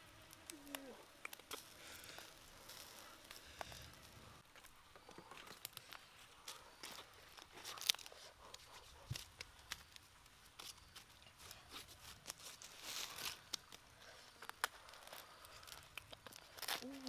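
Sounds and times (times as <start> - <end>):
leaves rustling and crackling: 0.0 - 17.0.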